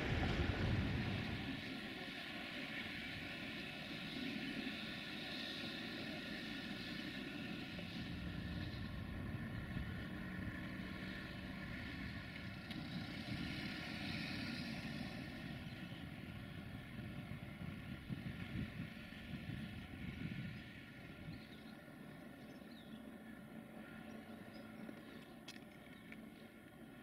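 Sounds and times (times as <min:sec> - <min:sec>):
diesel railway engine running: 0:00.0 - 0:27.0.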